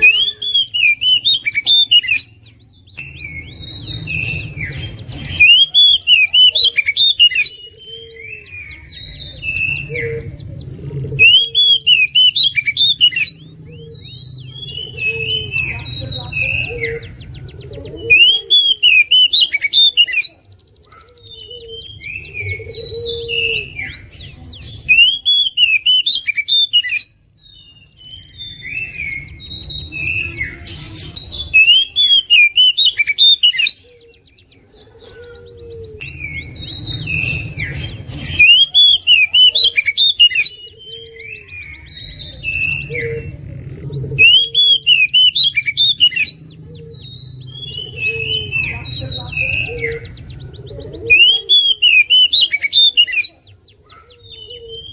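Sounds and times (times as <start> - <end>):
bird singing whistled trills: 0.0 - 54.9.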